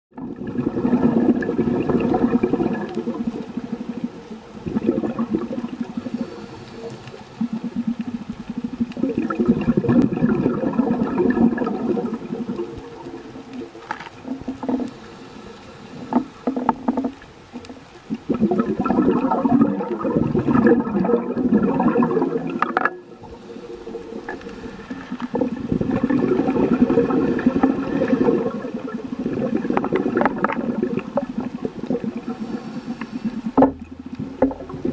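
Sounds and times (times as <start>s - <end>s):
diver's bubbles gurgling underwater: 0.1s - 15.1s, 15.9s - 34.9s.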